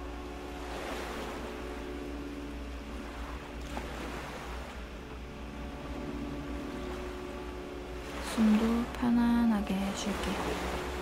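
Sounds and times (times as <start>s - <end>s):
low hum: 0.0s - 11.0s
soft ambient music: 0.0s - 11.0s.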